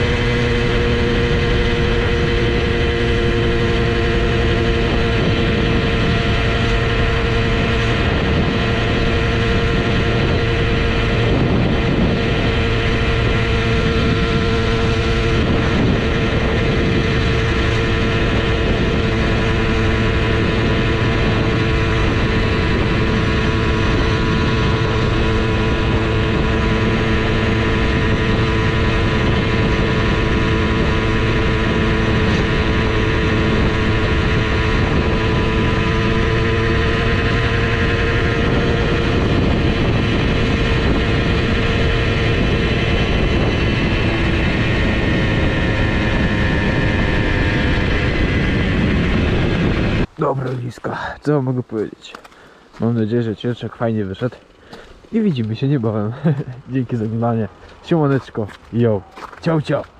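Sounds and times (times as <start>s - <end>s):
two-stroke engine running steadily: 0.0s - 50.6s, 54.3s - 59.9s.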